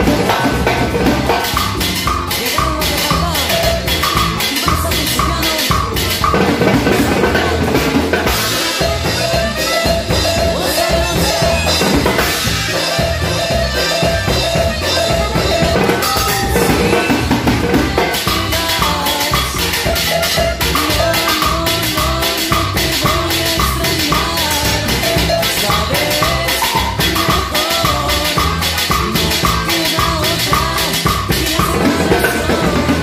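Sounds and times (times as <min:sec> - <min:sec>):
recorded band music: 0:00.0 - 0:33.0.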